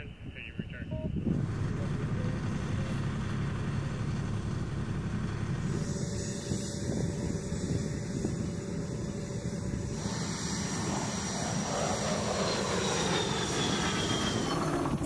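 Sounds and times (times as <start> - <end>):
high jet whine: 1.2 - 15.0
jet aircraft passing overhead: 1.2 - 15.0.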